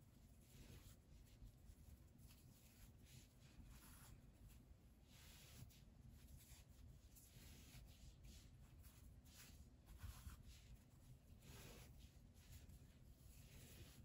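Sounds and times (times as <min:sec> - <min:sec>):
faint rustling of yarn: 0:00.0 - 0:14.0.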